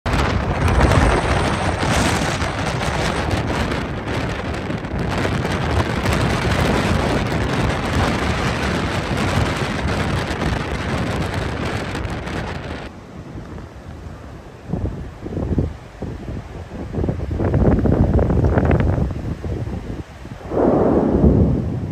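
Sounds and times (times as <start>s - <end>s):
wind on microphone: 0.0s - 21.9s.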